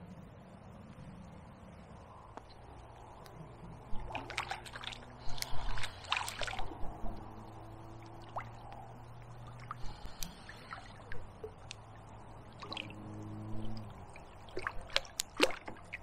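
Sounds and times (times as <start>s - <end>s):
steady low hum: 0.0s - 16.0s
water splashing and trickling: 1.9s - 16.0s.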